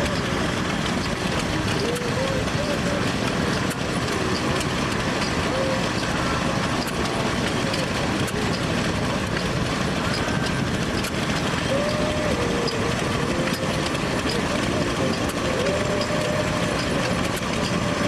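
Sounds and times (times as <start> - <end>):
engines running: 0.0 - 18.0
faint voices: 0.0 - 18.0.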